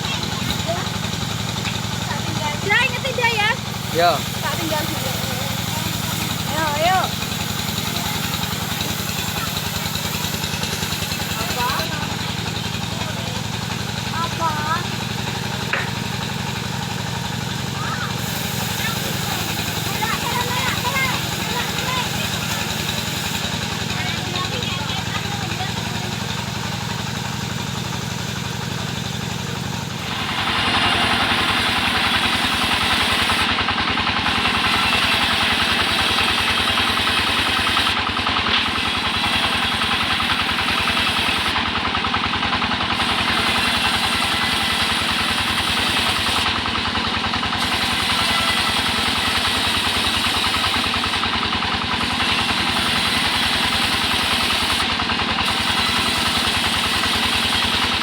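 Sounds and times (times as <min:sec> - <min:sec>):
engine throb: 0:00.0 - 0:58.0
engine-driven saw cutting wood: 0:00.0 - 0:58.0.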